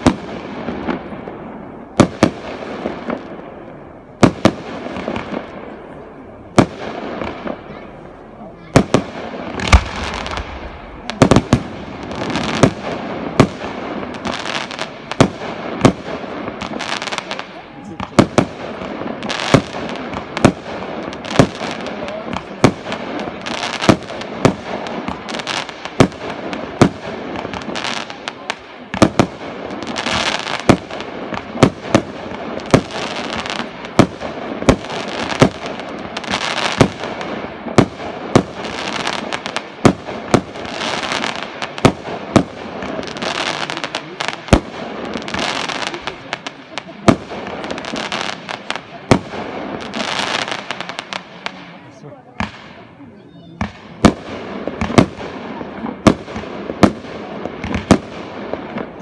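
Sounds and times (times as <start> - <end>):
firework bangs: 0.0 - 53.0, 53.6 - 59.0
firework crackling: 0.0 - 59.0.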